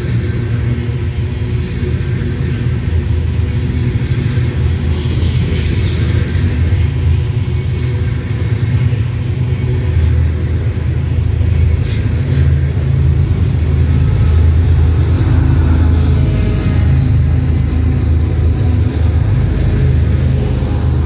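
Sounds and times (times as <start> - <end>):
diesel locomotive engines rumbling: 0.0 - 21.0.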